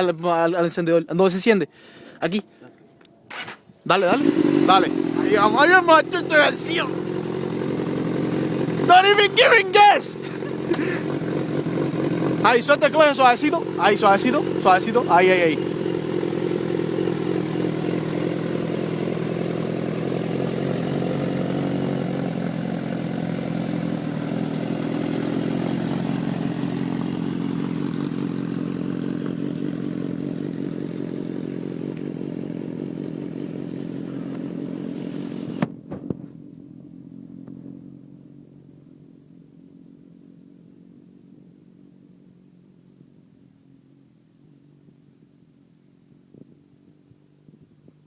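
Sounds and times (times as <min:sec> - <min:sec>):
motorcycle engine running: 0:03.3 - 0:48.0.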